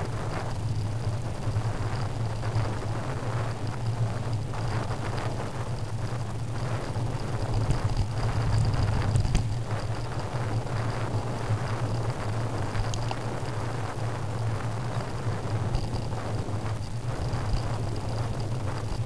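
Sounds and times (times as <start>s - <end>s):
faint high whine: 0.0s - 19.0s
steady low hum: 0.0s - 19.0s
wind over microphone: 0.0s - 19.0s.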